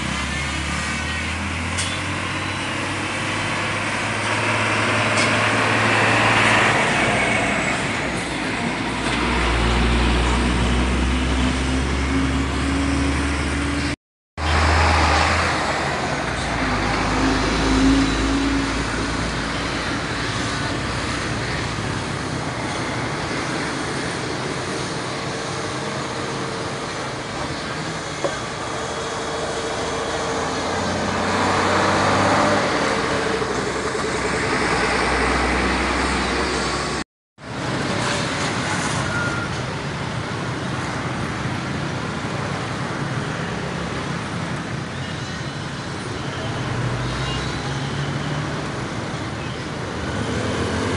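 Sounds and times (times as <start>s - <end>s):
large truck passing: 0.0s - 40.0s, 46.4s - 50.9s
heavy road traffic passing: 0.0s - 50.9s.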